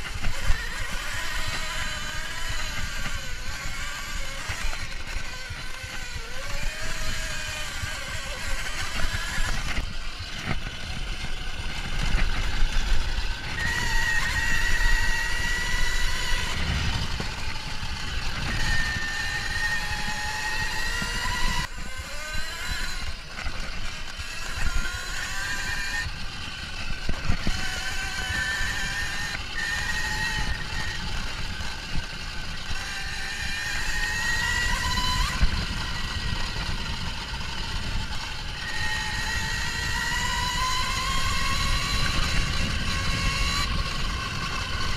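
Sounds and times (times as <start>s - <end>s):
electric motor whining: 0.0s - 44.9s
wind rumble: 0.0s - 44.9s.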